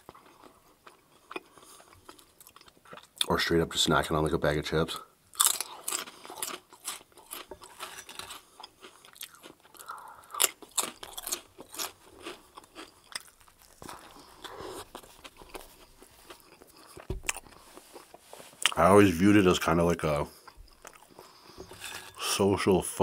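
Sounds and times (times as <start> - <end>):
chewing crunchy chips: 0.0 - 3.3, 5.3 - 18.8, 20.3 - 22.3.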